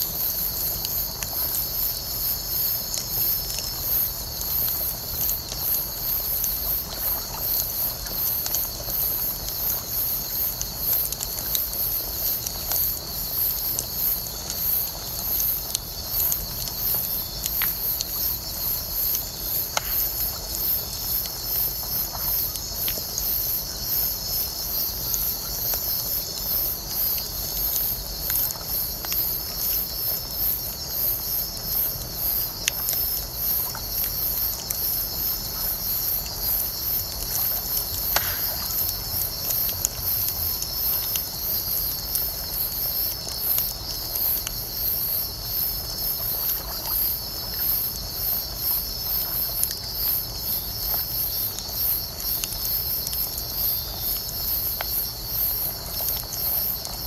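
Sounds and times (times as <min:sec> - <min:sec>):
high pulsing insect chirp: 0:00.0 - 0:57.0
bonfire crackling and popping: 0:00.1 - 0:44.9, 0:48.5 - 0:57.0.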